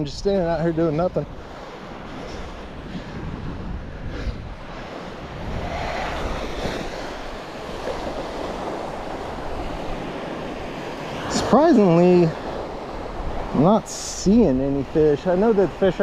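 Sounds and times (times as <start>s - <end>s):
wind rumbling on microphone: 0.0s - 15.6s
ocean surf washing onto beach: 0.0s - 16.0s.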